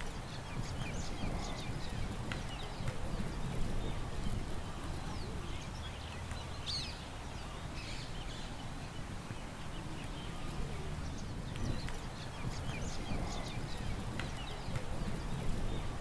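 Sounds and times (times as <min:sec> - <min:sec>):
low rumble of wind: 0:00.0 - 0:16.0
small birds chirping: 0:00.0 - 0:16.0.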